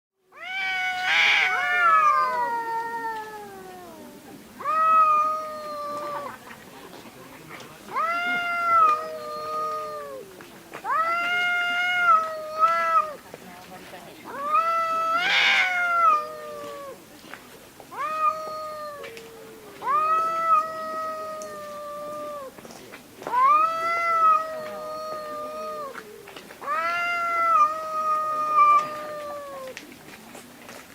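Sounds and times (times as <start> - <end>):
cats yowling: 0.3 - 6.4, 7.9 - 13.2, 14.3 - 17.0, 17.9 - 22.6, 23.3 - 29.8
lower cat call: 0.3 - 6.5, 7.8 - 13.2, 14.2 - 17.1, 17.9 - 22.6, 23.2 - 30.0.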